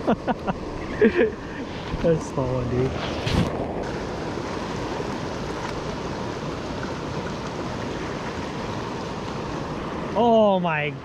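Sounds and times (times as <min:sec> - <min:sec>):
river rushing over riffles: 0:00.0 - 0:11.0.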